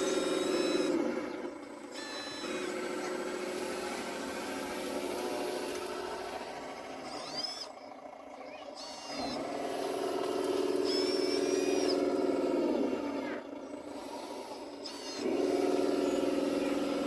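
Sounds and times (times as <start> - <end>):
model machine motor whine: 0.0 - 17.0.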